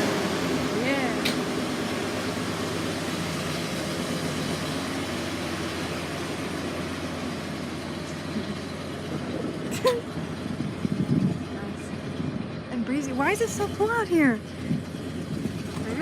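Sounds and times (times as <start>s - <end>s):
pickup truck engine rumbling: 0.0s - 16.0s.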